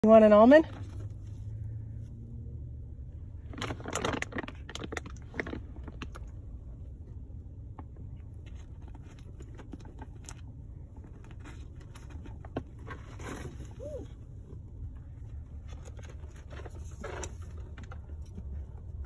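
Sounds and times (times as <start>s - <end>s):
low car hum: 0.0s - 19.0s.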